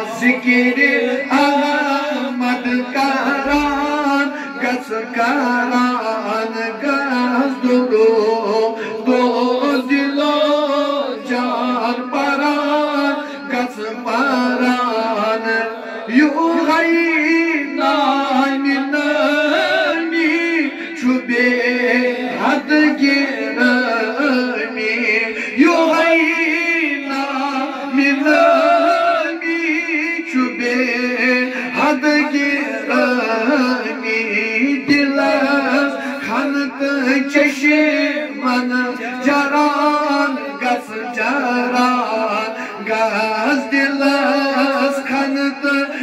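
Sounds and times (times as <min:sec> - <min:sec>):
men singing devotional song: 0:00.0 - 0:46.0.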